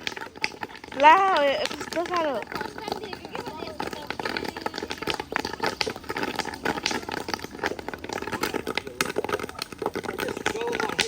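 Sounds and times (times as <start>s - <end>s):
fish frying in crackling oil: 0.0s - 11.0s.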